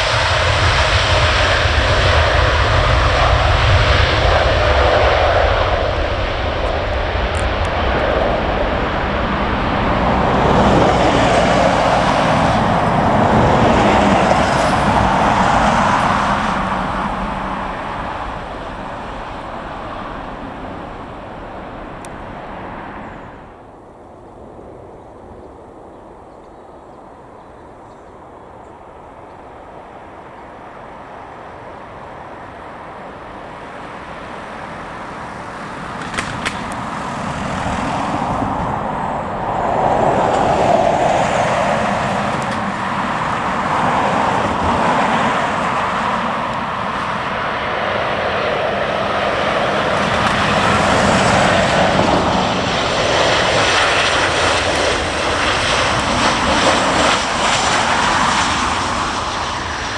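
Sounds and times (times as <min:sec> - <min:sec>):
aircraft engine: 0:00.0 - 0:59.9.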